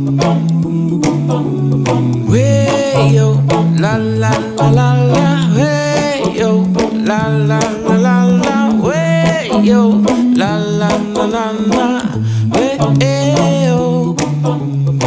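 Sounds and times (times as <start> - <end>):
song with singing and guitar: 0.0 - 15.0.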